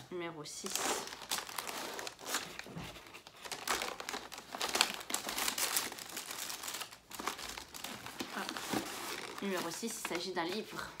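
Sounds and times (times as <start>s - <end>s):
wrapping paper crinkling: 0.6s - 11.0s.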